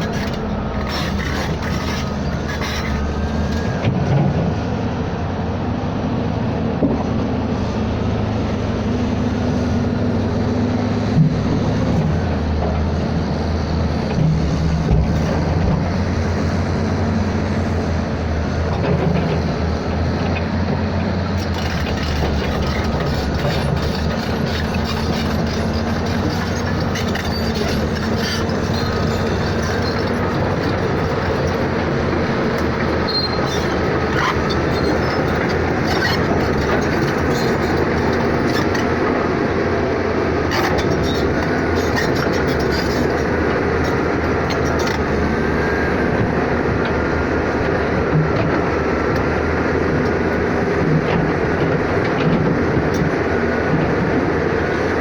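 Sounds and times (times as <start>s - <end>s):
moving vehicle rumbling: 0.0s - 55.0s.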